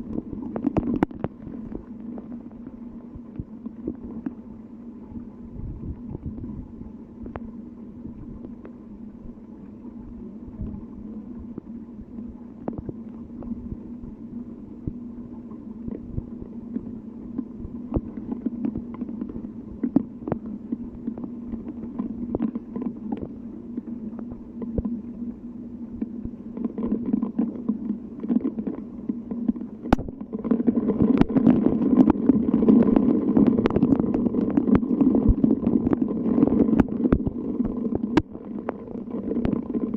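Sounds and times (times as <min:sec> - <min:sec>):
raindrop clicks: 0:00.0 - 0:04.4, 0:10.6 - 0:13.8, 0:14.8 - 0:25.3, 0:25.9 - 0:39.9
steady low hum: 0:00.0 - 0:39.9.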